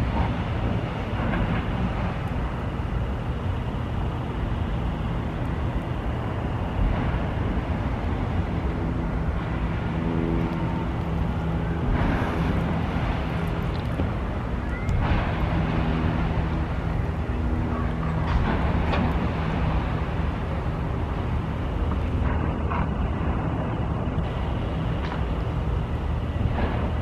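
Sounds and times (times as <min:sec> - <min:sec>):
diesel engine of heavy machinery: 0:00.0 - 0:27.0.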